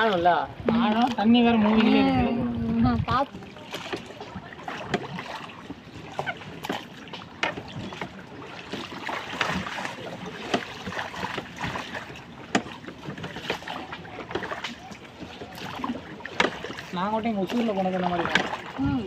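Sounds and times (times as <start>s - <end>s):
oars splashing in water: 0.0s - 19.0s
water wash: 0.0s - 19.0s.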